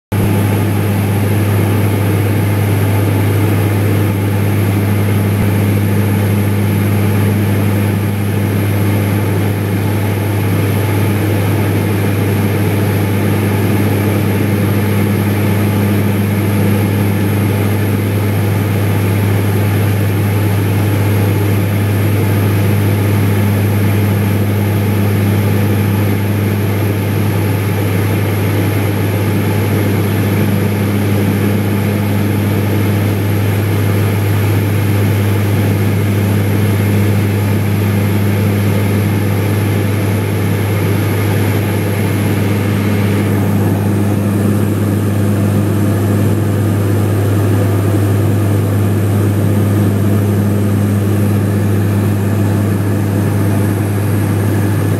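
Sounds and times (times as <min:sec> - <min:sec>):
propeller aircraft cabin drone: 0:00.1 - 0:54.9.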